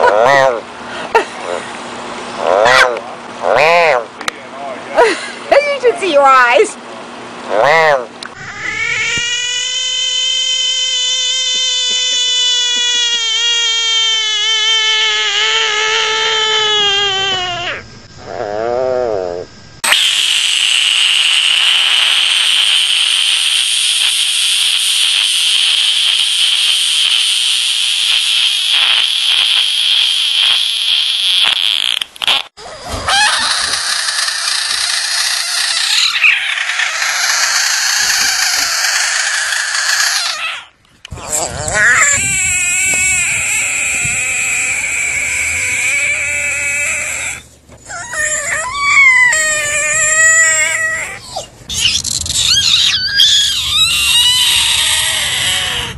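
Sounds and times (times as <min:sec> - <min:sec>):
frogs screaming: 0:00.0 - 0:01.6, 0:02.3 - 0:04.1, 0:07.5 - 0:55.9.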